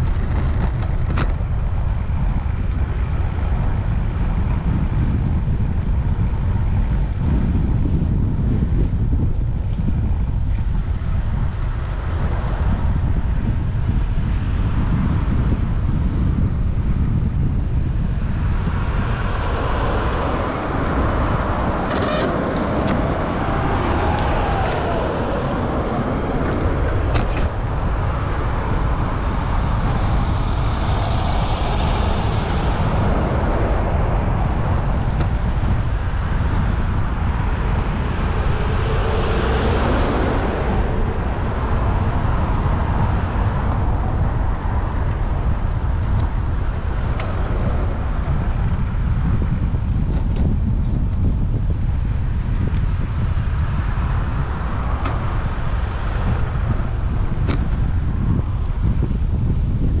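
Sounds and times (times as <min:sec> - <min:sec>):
wind rumble on microphone: 0:00.0 - 1:00.0
road traffic passing: 0:09.9 - 1:00.0.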